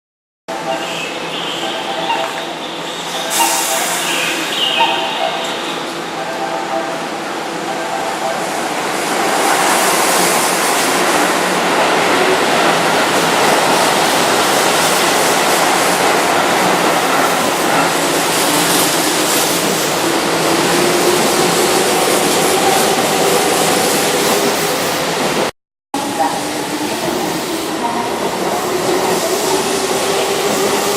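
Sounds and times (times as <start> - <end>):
electric train running on track: 0.5 - 30.9.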